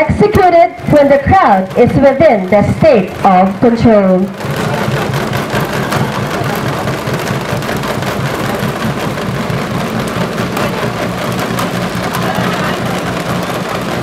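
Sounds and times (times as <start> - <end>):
motor humming: 0.6 - 14.0.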